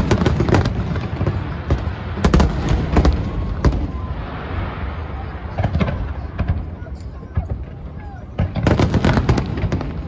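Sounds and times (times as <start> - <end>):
fireworks cracking: 0.0 - 10.0.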